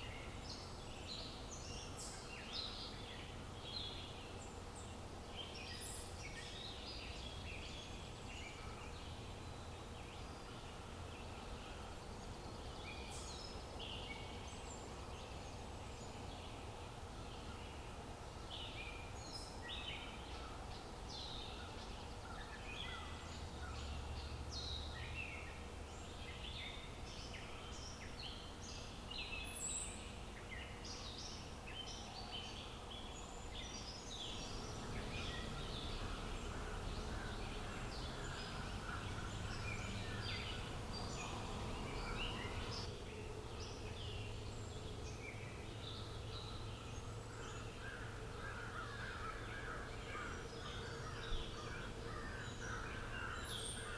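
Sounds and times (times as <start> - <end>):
outdoor background hiss: 0.0 - 53.9
small birds chirping and singing: 0.0 - 53.9.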